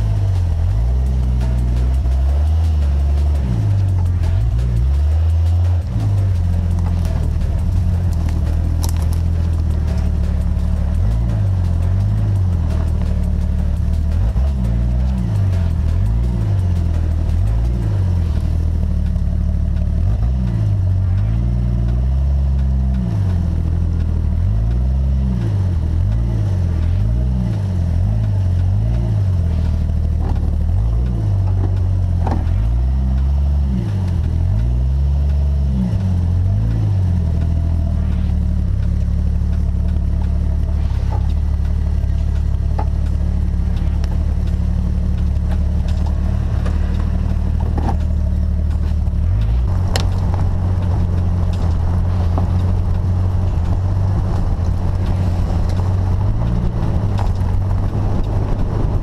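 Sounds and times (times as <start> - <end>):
off-road vehicle engine revving: 0.0 - 59.0
vehicle clunks and rattles: 0.0 - 59.0.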